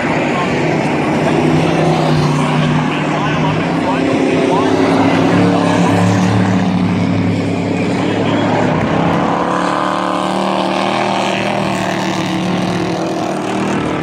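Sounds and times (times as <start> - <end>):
race truck engines droning: 0.0 - 14.0.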